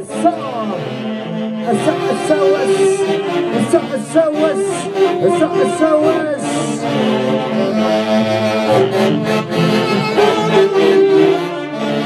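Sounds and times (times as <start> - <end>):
saxophones playing in harmony: 0.0 - 12.0.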